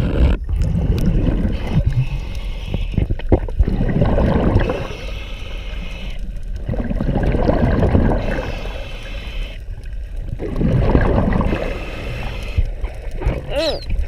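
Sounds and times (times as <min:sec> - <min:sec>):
water rushing and gurgling: 0:00.0 - 0:14.0.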